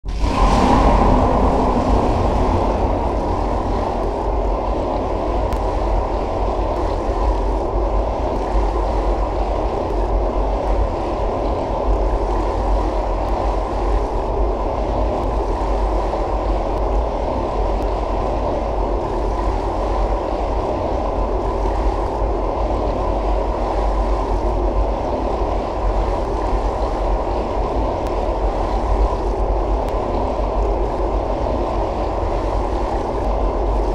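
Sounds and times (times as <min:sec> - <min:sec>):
low rushing water: 0:00.0 - 0:33.9.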